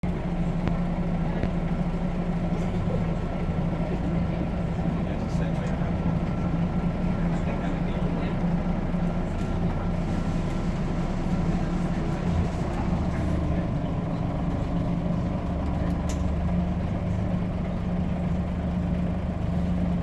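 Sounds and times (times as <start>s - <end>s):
bus diesel engine humming: 0.0s - 20.0s.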